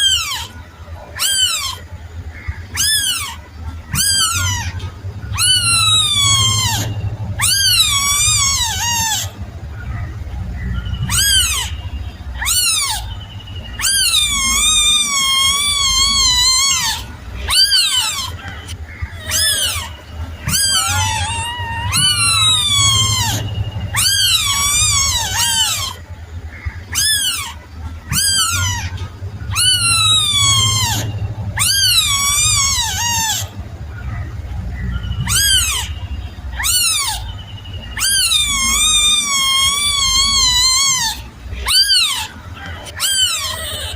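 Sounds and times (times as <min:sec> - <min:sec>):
kitten meowing: 0:00.0 - 0:00.6, 0:01.2 - 0:01.9, 0:02.7 - 0:09.4, 0:11.0 - 0:13.1, 0:13.8 - 0:26.0, 0:26.9 - 0:33.6, 0:35.2 - 0:37.2, 0:38.0 - 0:43.9.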